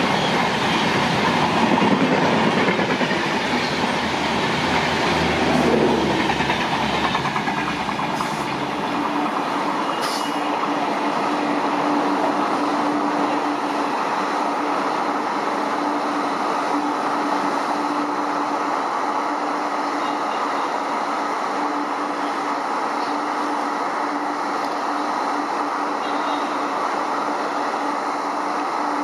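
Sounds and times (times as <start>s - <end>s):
train rail noise: 0.0s - 29.0s.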